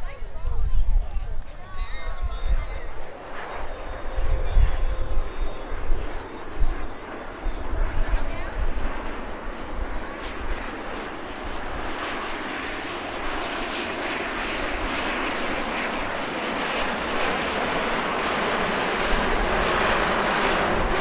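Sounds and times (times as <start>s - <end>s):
aircraft engine flying past: 0.0s - 21.0s.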